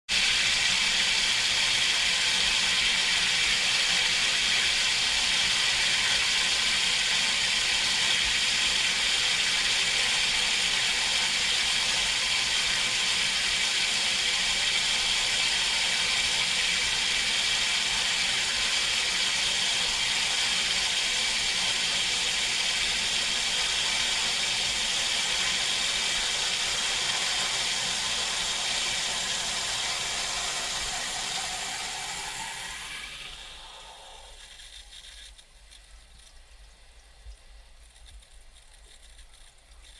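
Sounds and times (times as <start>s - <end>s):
water rushing through pipes: 0.1s - 35.4s.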